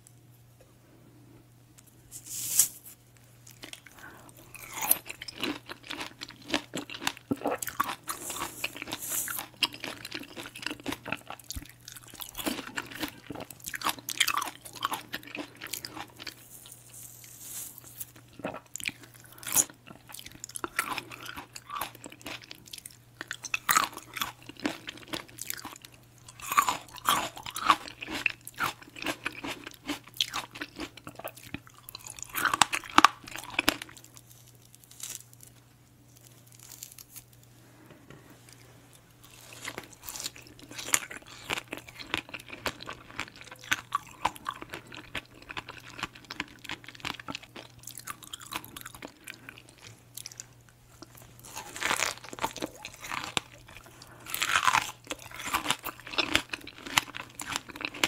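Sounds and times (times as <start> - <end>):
person chewing fruit: 3.4 - 37.5, 38.5 - 58.0.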